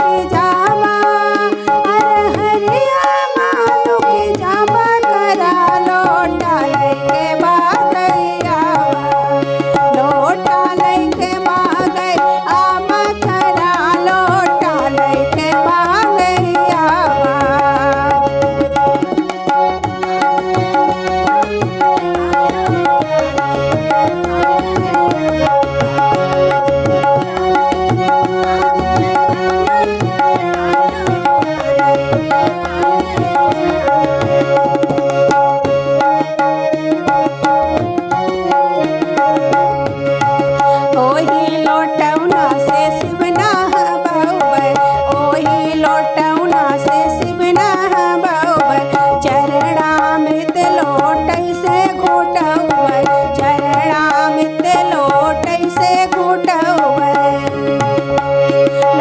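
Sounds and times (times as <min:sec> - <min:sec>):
harmonium chords: 0:00.0 - 0:59.0
tabla rhythm: 0:00.0 - 0:59.0.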